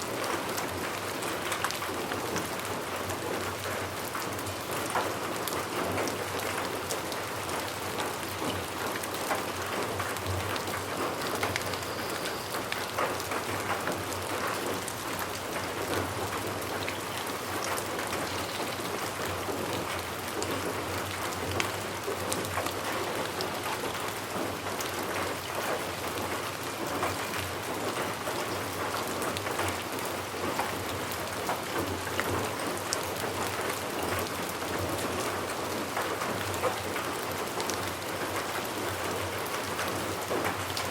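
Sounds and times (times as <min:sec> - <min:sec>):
raindrops ticking on surface: 0:00.0 - 0:40.9
steady rain hiss: 0:00.0 - 0:40.9.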